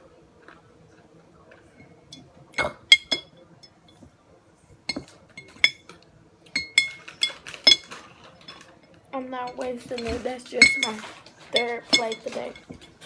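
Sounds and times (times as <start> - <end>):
utensil clinking against dish: 1.6 - 4.1, 4.8 - 13.0.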